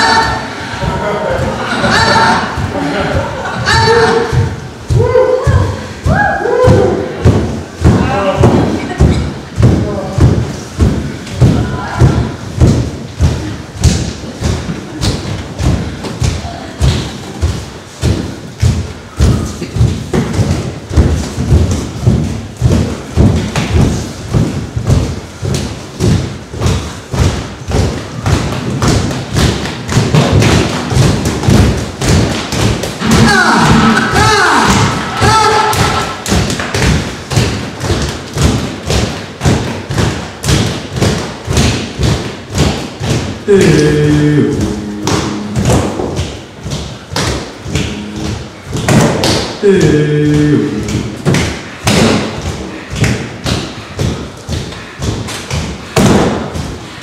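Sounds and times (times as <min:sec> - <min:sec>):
heavy rhythmic thumps: 0:00.0 - 0:57.0.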